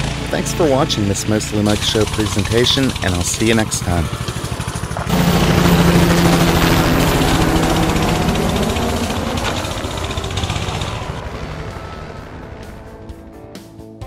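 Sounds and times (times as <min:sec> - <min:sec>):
mini bike engine revving: 0:00.0 - 0:13.5.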